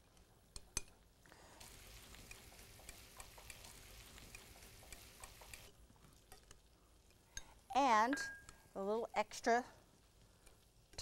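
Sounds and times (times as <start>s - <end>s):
food sizzling with pops: 0.0s - 11.0s.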